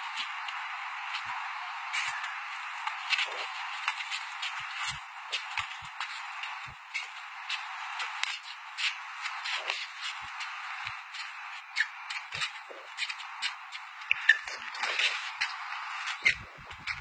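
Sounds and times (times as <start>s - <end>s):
steady hiss: 0.0s - 17.0s
sneakers scuffing on concrete: 2.0s - 16.2s.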